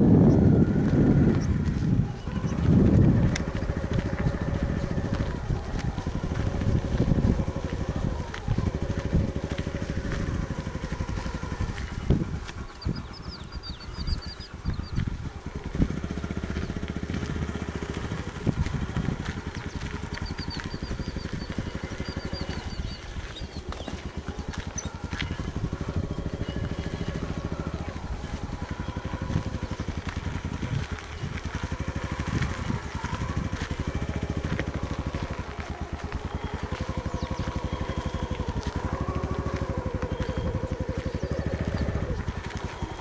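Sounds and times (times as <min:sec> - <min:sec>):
small engine running: 0:00.0 - 0:43.0
bird chirping: 0:01.2 - 0:32.0, 0:32.8 - 0:43.0.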